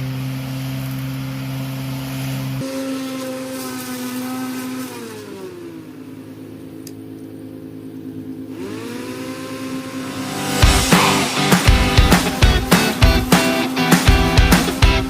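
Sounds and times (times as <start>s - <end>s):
electric lawn mower motor whirring: 0.0s - 15.0s.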